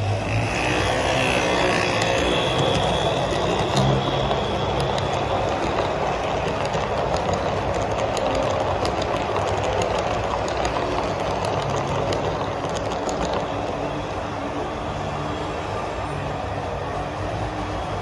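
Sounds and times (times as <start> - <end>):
model train rumbling: 0.0 - 18.0
wheels clicking over rails: 0.0 - 18.0.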